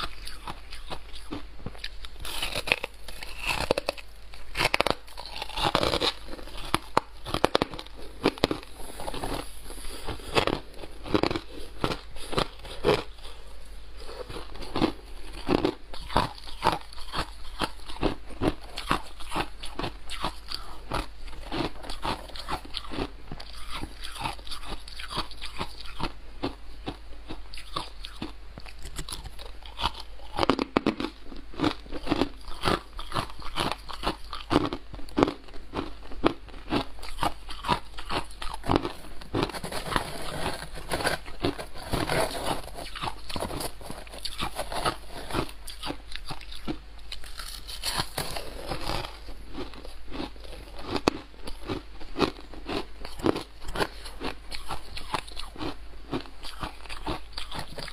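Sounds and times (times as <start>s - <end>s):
ice being chewed: 0.0s - 57.9s.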